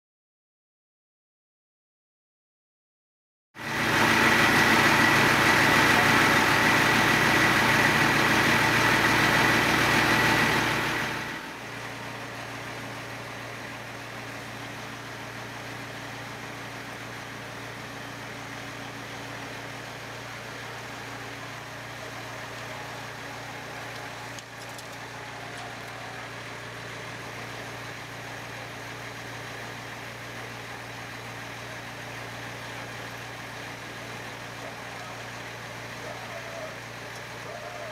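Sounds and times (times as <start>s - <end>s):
vehicle engine idling: 3.6s - 37.9s.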